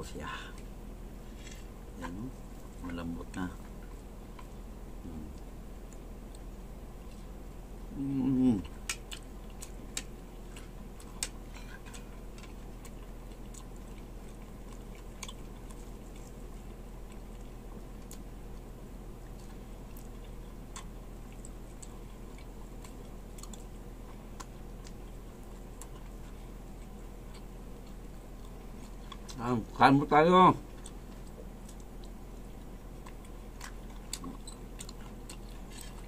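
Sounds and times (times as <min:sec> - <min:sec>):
steady low hum: 0:00.0 - 0:36.0
man chewing meat: 0:00.2 - 0:36.0.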